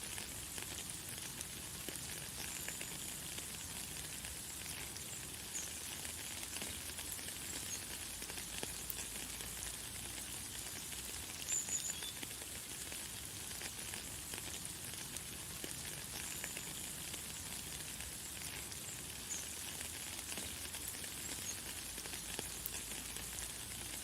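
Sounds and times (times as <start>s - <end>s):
light rain hiss: 0.0s - 24.0s.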